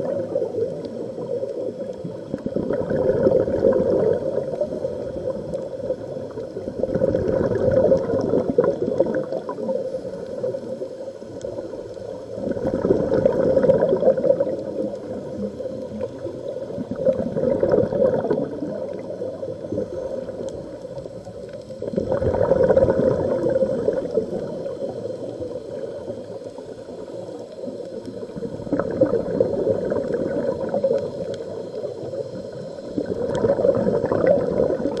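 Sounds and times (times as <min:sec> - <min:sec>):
underwater exhaust bubbles gurgling: 0:00.0 - 0:35.0.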